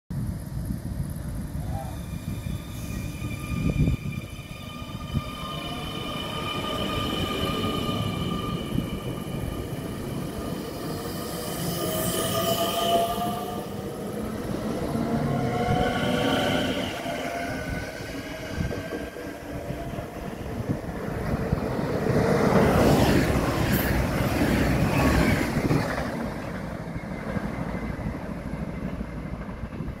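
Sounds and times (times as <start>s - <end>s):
electric train passing: 0.2s - 30.0s.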